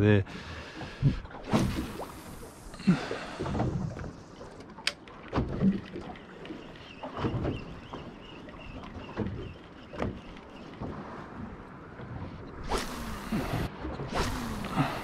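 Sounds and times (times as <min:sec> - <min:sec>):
water slapping boat hull: 0:00.3 - 0:15.0.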